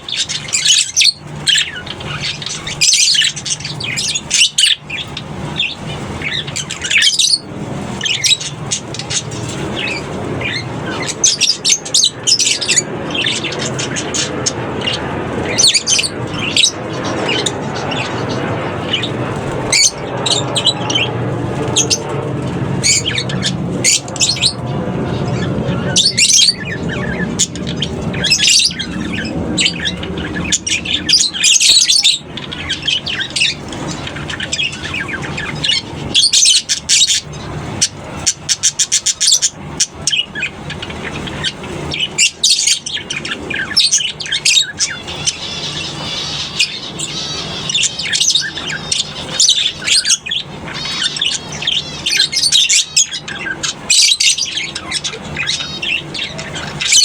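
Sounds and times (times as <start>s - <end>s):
lovebirds chirping and squawking: 0.0s - 57.0s.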